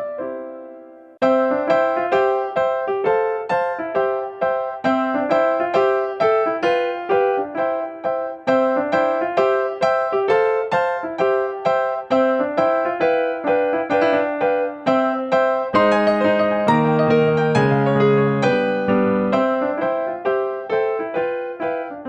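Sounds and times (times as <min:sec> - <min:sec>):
keyboard melody: 0:00.0 - 0:22.0.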